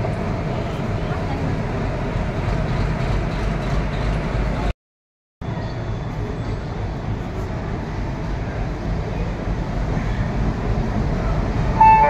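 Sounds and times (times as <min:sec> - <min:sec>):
approaching diesel locomotive engine: 0:00.0 - 0:04.7, 0:05.4 - 0:12.0
diesel locomotive engine running: 0:00.0 - 0:04.7, 0:05.5 - 0:12.0.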